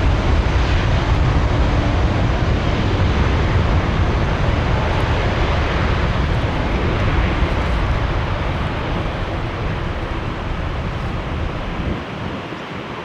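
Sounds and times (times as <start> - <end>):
jet engines passing low: 0.0 - 13.0.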